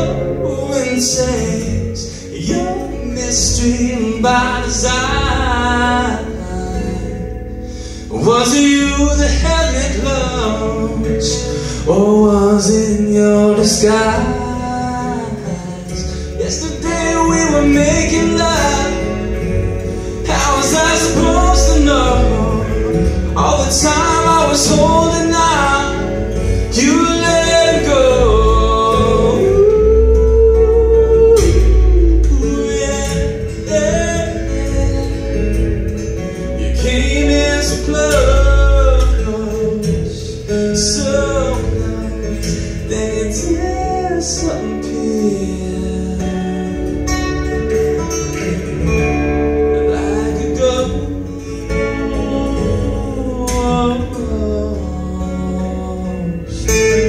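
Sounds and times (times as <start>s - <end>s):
acoustic guitar: 0.0s - 57.0s
man singing: 0.0s - 57.0s.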